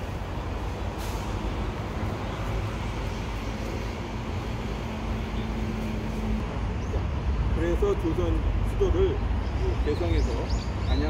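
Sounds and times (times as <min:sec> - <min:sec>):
rumble of passing vehicles: 0:00.0 - 0:11.0.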